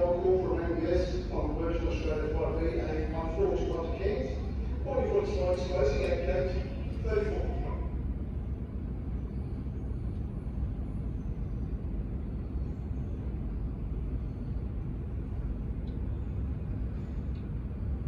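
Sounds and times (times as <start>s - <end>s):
airport background rumble: 0.0s - 18.0s.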